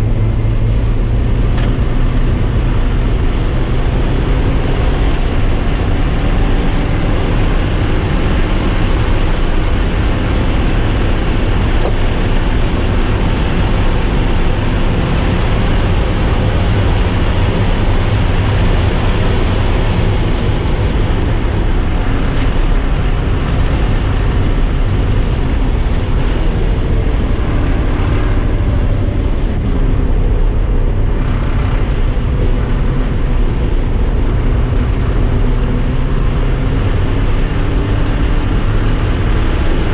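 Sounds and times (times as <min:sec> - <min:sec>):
car engine running hard: 0:00.0 - 0:39.9
road noise: 0:00.0 - 0:39.9
wind noise: 0:00.0 - 0:39.9.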